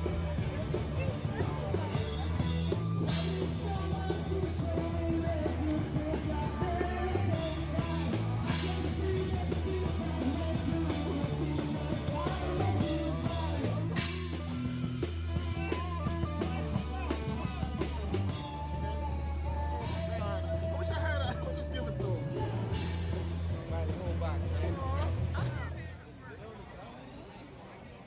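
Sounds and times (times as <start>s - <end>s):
song with singing voice: 0.0s - 25.6s
bass line: 0.0s - 25.8s.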